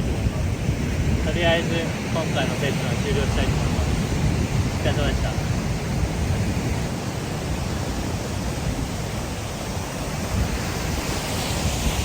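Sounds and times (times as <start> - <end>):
ocean surf rushing on beach: 0.0 - 12.0
wind buffeting microphone: 0.0 - 12.0.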